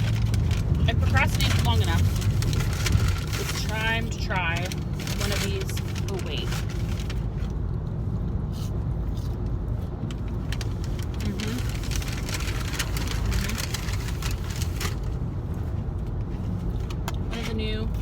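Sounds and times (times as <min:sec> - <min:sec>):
car cabin rumble: 0:00.0 - 0:08.2, 0:09.0 - 0:18.0.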